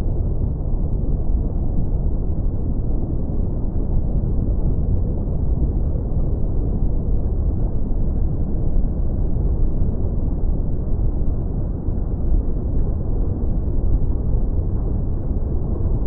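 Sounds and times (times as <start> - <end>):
muffled rumble of surf: 0.0 - 16.0.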